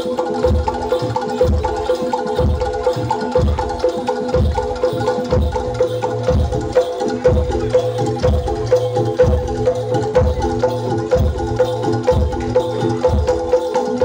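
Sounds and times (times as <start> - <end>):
deep drum beat: 0.0 - 14.0
metal mallet-struck keys: 0.0 - 14.0.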